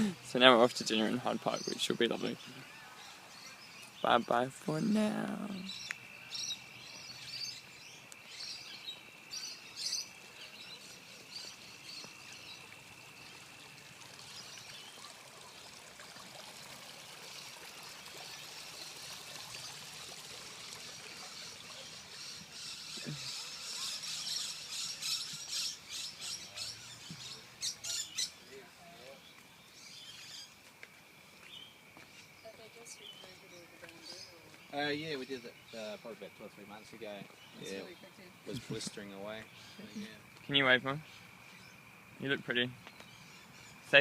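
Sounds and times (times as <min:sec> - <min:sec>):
small birds chirping: 0:00.0 - 0:15.9, 0:17.1 - 0:44.0
faint outdoor noise: 0:00.0 - 0:44.0.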